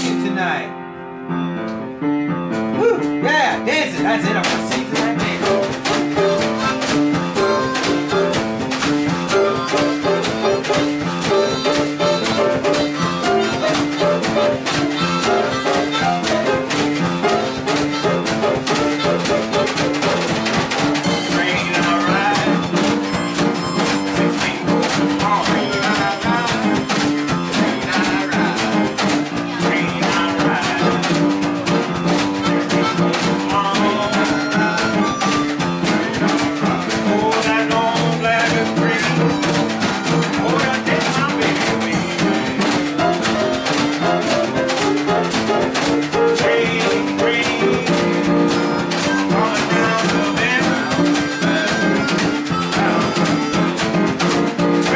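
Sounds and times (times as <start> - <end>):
repeating instrumental line: 3.1 - 54.9
drum kit with cymbals: 3.9 - 54.9.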